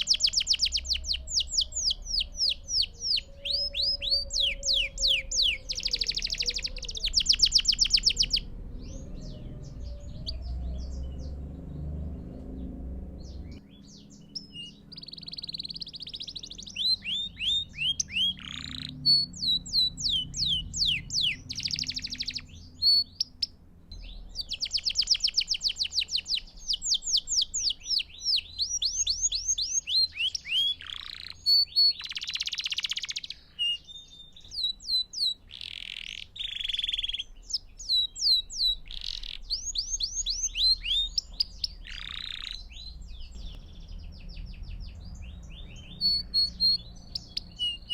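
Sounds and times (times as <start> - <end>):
faint low rumble: 0.0 - 33.5, 34.2 - 47.9
canary singing: 0.0 - 47.9.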